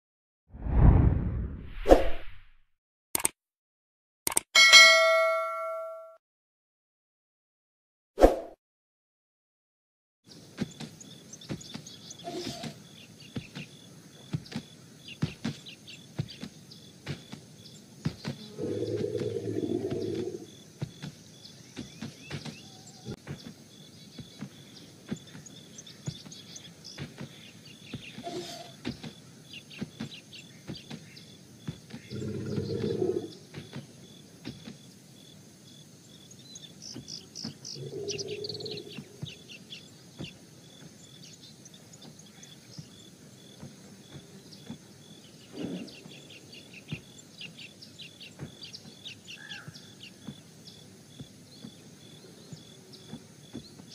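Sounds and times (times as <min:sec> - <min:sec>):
small birds chirping: 0:10.3 - 0:53.9.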